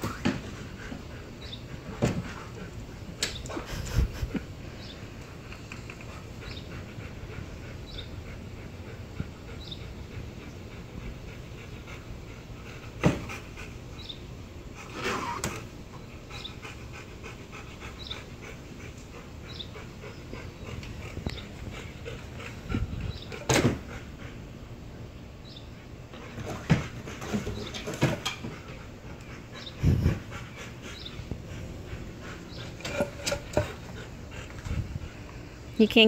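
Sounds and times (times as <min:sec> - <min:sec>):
dog panting: 0:00.1 - 0:36.0.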